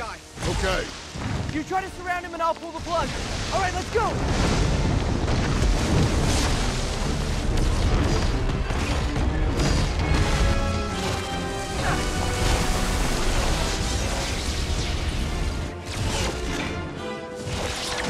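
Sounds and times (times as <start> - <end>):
orchestral music: 0.0 - 18.0.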